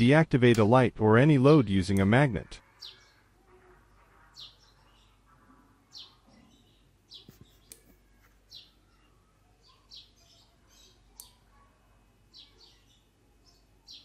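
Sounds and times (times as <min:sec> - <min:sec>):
bird chirping: 0:01.7 - 0:14.0.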